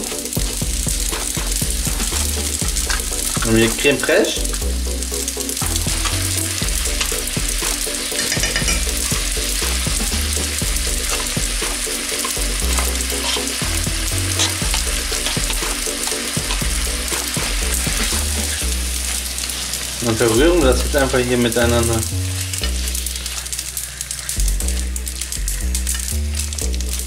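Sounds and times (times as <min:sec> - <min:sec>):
meat sizzling in frying pan: 0:00.0 - 0:27.0.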